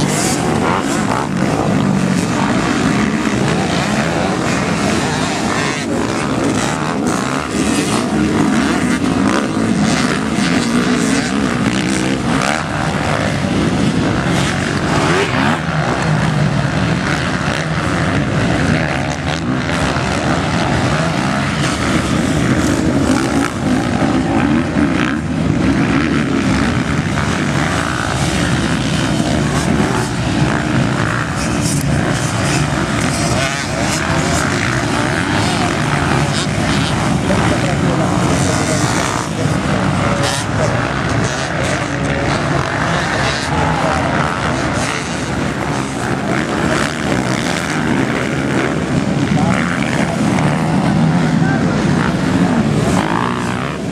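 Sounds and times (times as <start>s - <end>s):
motocross bikes revving: 0.0s - 53.9s.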